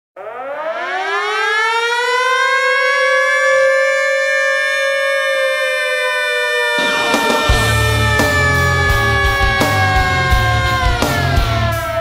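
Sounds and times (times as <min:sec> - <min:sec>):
air-raid siren wailing: 0:00.2 - 0:12.0.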